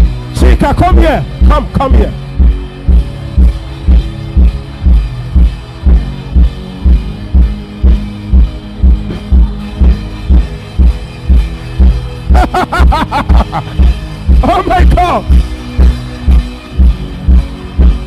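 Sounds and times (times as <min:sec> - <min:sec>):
sustained bass notes: 0:00.0 - 0:18.0
kick drum beat: 0:00.9 - 0:18.0.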